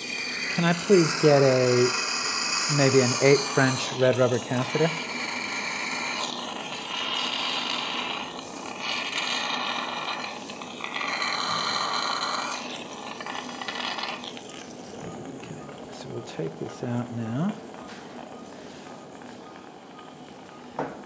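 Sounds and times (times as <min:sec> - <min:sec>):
surgical suction hissing and slurping: 0:00.0 - 0:20.4.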